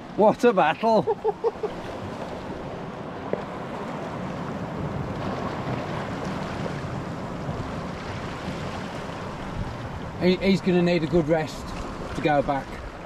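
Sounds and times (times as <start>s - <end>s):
surf on rocky shore: 0.0s - 13.0s.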